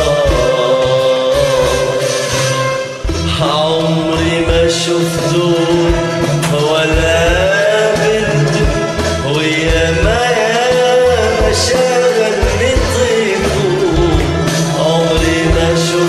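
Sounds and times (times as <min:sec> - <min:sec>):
karaoke backing track with bass beat: 0:00.0 - 0:16.0
man singing into microphone: 0:00.0 - 0:16.0.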